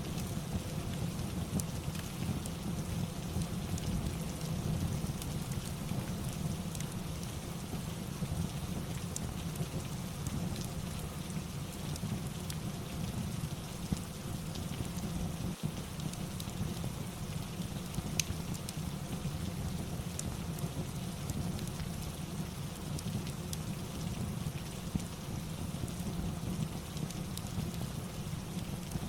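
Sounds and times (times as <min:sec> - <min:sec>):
steady rain: 0:00.0 - 0:29.0
wood fire crackling: 0:00.0 - 0:29.0.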